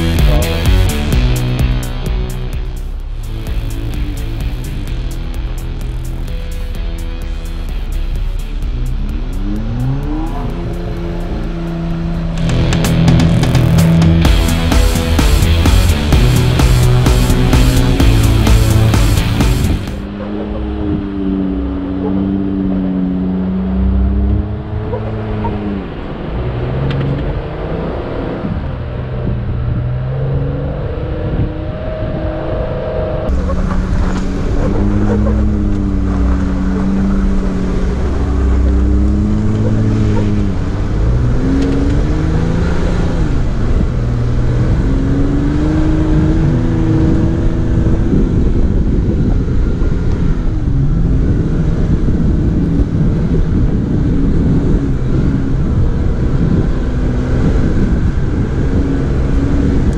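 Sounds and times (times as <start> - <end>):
engine revving: 0.0 - 59.9
low rumble of drivetrain and tires: 0.0 - 59.9.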